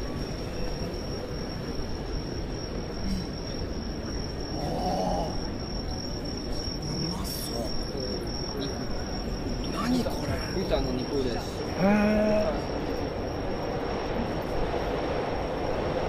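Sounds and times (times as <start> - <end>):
traffic and crowd rumble: 0.0 - 16.0.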